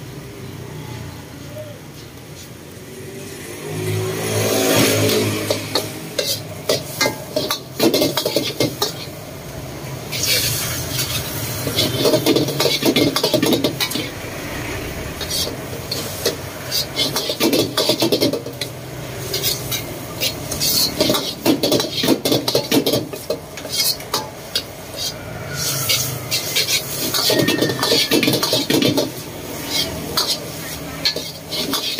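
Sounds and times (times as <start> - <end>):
food sizzling: 2.6 - 31.9
utensils scraping a wok: 3.4 - 9.3, 9.9 - 31.9.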